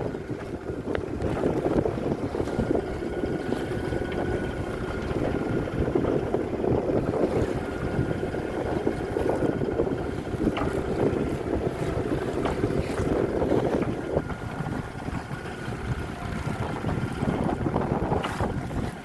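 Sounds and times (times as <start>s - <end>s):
water slapping against hull: 0.0s - 19.0s
wind buffeting microphone: 0.0s - 19.0s.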